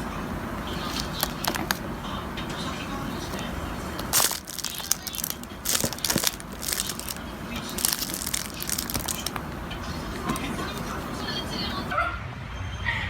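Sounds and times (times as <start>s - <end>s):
crunching and crackling: 0.0s - 11.9s.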